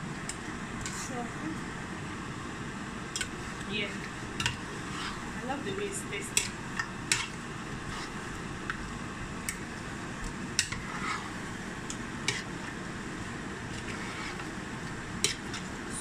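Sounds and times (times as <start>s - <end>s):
spatula stirring thick soup: 3.0s - 15.9s.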